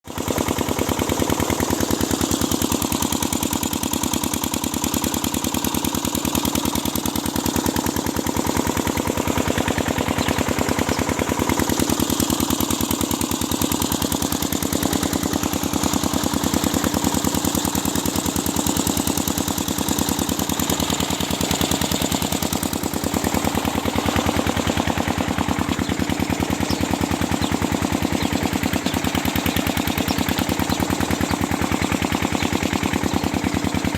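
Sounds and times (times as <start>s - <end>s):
diesel pump engine running: 0.0s - 33.9s.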